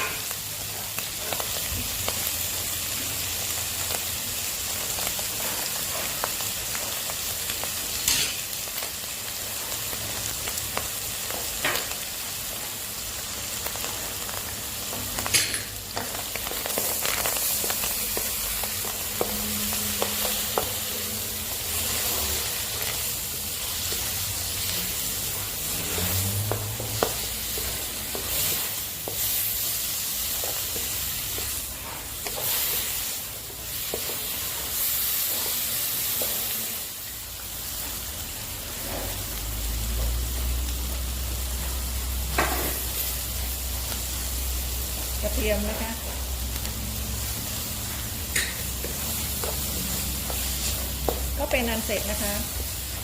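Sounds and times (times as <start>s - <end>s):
seafood sizzling in a hot pan: 0.0s - 53.0s.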